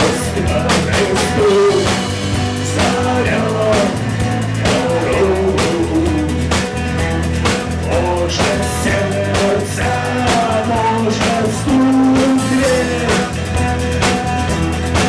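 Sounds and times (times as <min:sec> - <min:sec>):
bass guitar: 0:00.0 - 0:15.0
drum kit steady beat: 0:00.0 - 0:15.0.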